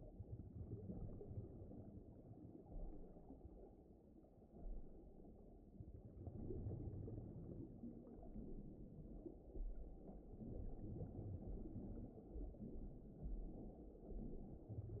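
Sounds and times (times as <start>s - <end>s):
deep-water ambient rumble: 0.0s - 15.0s.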